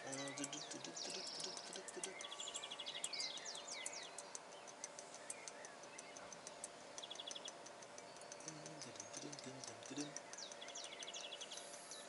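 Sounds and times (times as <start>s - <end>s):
bird trill: 0.0s - 12.0s
birds chirping: 0.0s - 12.0s
light irregular ticks: 0.0s - 12.0s.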